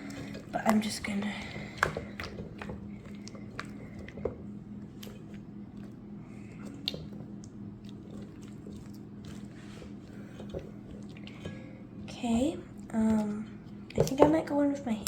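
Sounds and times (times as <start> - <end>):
faint steady hum: 0.0 - 15.0
slime squishing in a bowl: 0.0 - 15.0.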